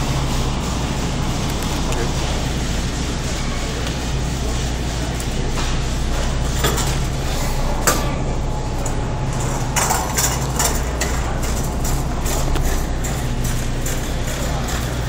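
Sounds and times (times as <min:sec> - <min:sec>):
shopping cart rattling: 0:00.0 - 0:15.0
store hum: 0:00.0 - 0:15.0.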